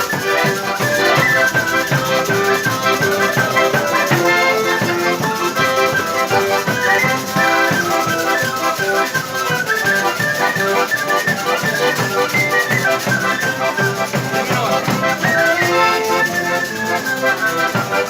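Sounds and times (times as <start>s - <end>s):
instrumental melody: 0.0s - 18.0s
quick percussion strokes: 0.0s - 18.0s.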